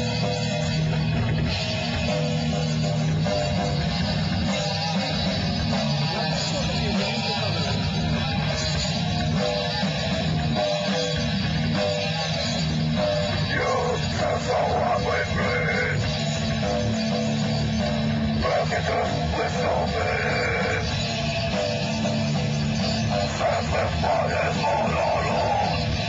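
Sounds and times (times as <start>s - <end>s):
live rock band with electric guitars: 0.0s - 26.0s.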